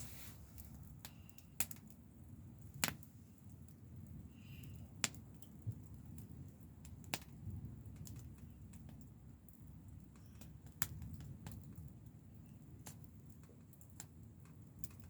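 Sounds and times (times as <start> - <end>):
campfire low rumble: 0.0 - 15.0
fire crackles and pops: 0.0 - 15.0.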